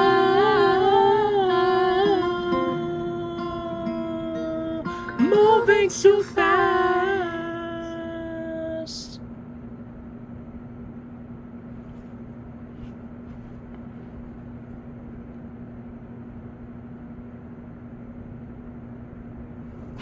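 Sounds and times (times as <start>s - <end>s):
constant low hum tone: 0.0s - 20.0s
low rumble and hiss: 0.0s - 20.0s.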